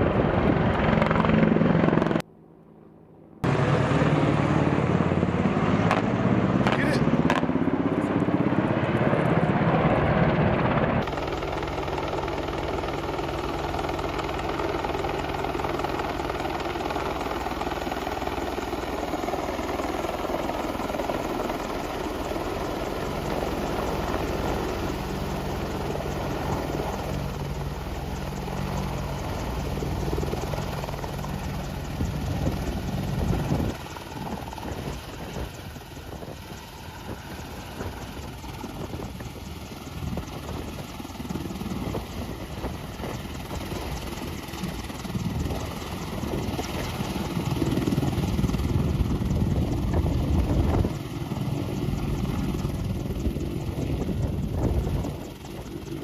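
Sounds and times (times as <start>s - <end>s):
helicopter rotor and engine: 0.0s - 56.0s.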